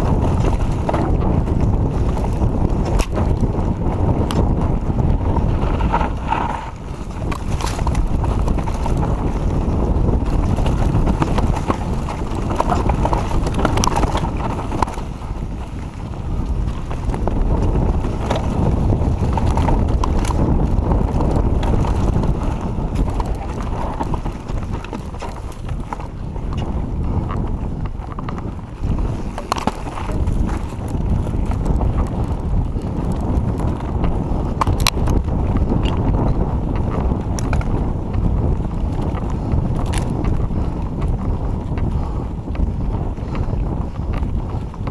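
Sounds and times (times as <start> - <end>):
bike clicks and knocks: 0.0 - 44.9
tyres rumbling over dirt: 0.0 - 44.9
wind buffeting microphone: 0.0 - 44.9.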